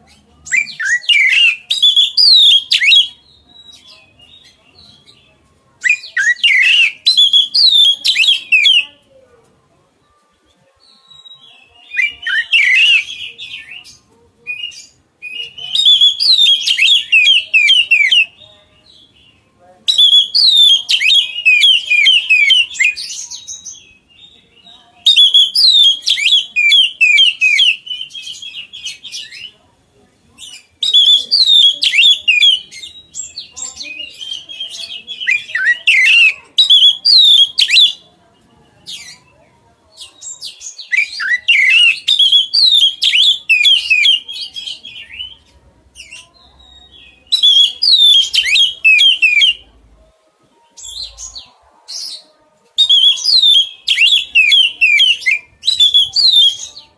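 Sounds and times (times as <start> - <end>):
bird singing whistled phrases: 0.1 - 5.2, 5.8 - 8.8, 10.9 - 13.8, 14.5 - 18.4, 19.9 - 29.5, 30.4 - 38.0, 40.2 - 49.6, 52.8 - 56.8.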